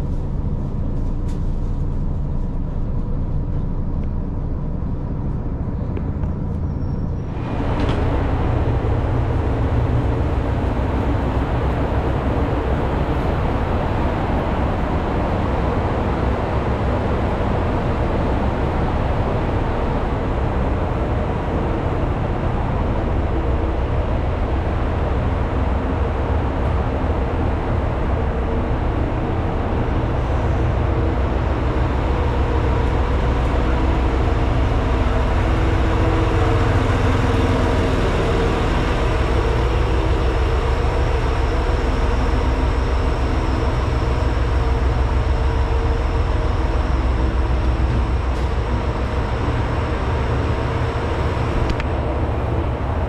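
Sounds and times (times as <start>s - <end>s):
railcar engine drone: 0.0s - 53.0s
wheel and rail noise: 0.0s - 53.0s.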